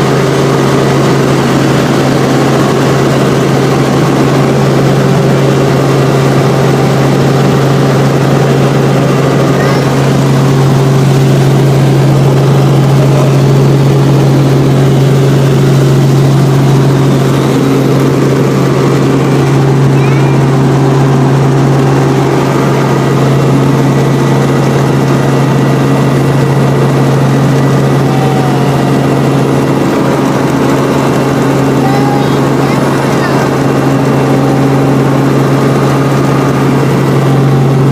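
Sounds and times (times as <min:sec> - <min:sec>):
helicopter engine and rotor: 0:00.0 - 0:37.9.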